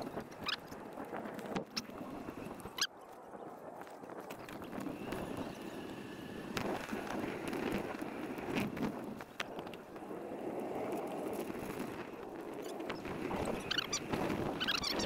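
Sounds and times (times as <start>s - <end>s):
bicycle tyre and wind rush: 0.0s - 15.0s.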